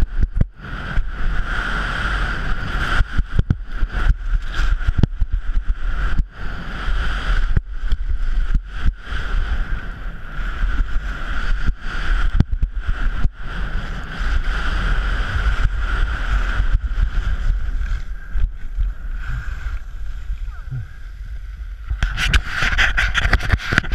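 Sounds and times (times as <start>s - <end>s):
skis scraping over packed snow: 0.0s - 23.9s
wind rushing over camera: 0.0s - 23.9s.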